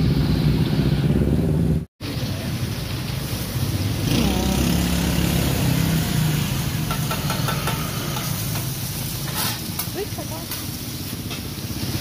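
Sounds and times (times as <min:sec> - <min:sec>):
engine humming: 0:00.0 - 0:12.0
street noise: 0:00.0 - 0:12.0.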